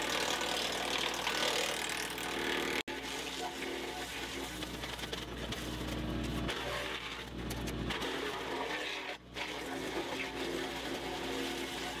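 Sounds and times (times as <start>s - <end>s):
wood chipper running: 0.0s - 11.8s.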